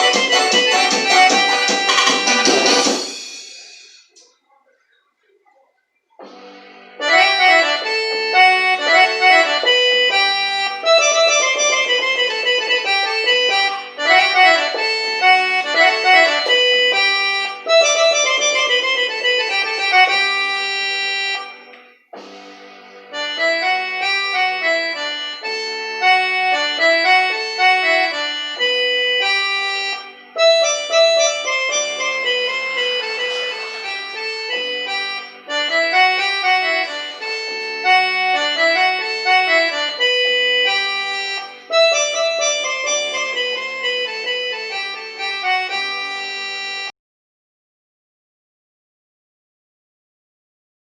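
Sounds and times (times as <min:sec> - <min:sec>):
accordion melody: 0:00.0 - 0:04.2, 0:06.2 - 0:47.0.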